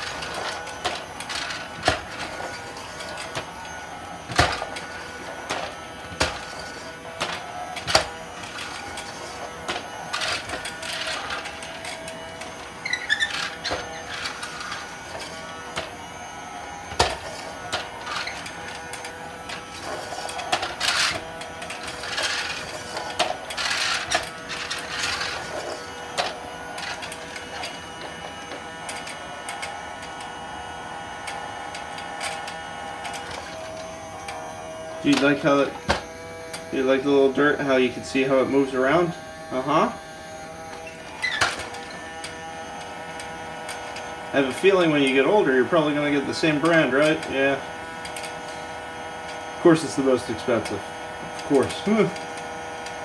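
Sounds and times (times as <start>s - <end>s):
toy vacuum motor whirring: 0.0s - 53.0s.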